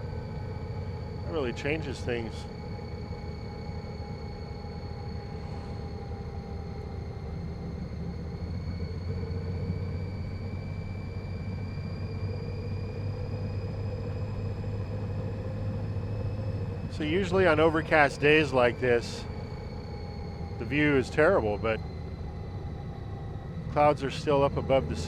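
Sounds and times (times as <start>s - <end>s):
faint high whine: 0.0s - 25.0s
motorcycle engine drone: 0.0s - 25.0s.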